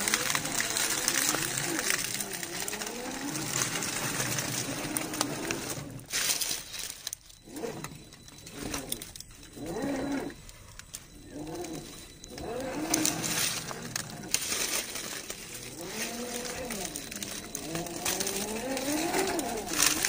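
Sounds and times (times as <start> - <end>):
electric motor whining: 0.0 - 20.0
tyres on wet rock and leaves: 0.0 - 20.0.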